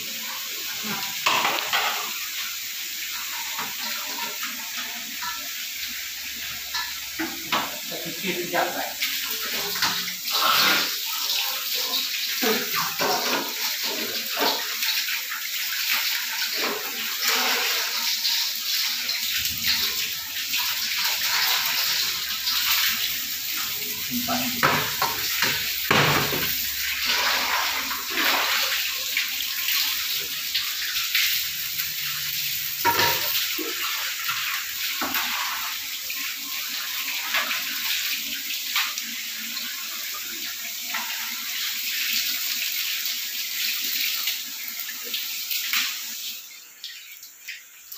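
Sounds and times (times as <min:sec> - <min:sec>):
tap water splashing into basins: 0:00.0 - 0:47.9.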